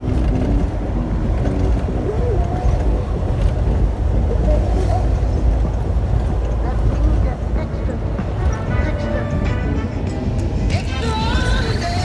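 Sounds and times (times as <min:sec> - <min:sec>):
road noise inside truck cab: 0:00.0 - 0:12.0
truck engine rumble: 0:00.0 - 0:12.0.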